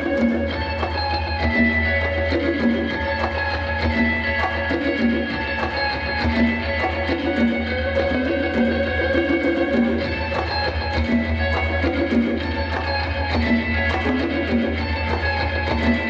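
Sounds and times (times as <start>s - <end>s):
congas: 0.0s - 16.0s
electric guitar: 0.0s - 16.0s.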